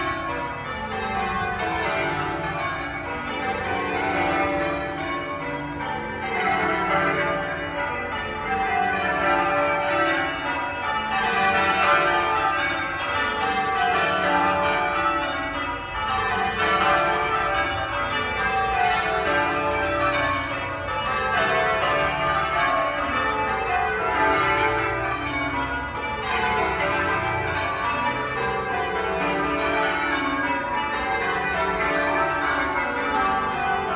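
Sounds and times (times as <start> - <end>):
church bells change ringing: 0.0 - 33.9.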